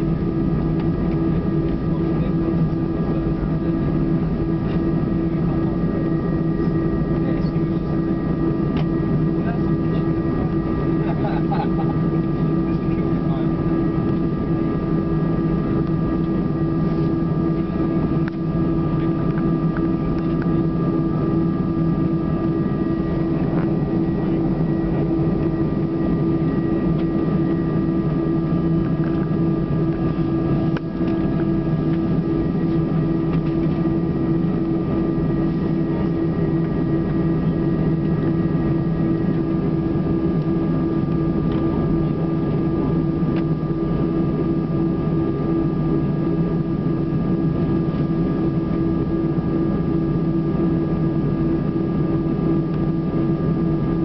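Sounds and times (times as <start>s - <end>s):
jet engines low hum: 0.0s - 54.0s.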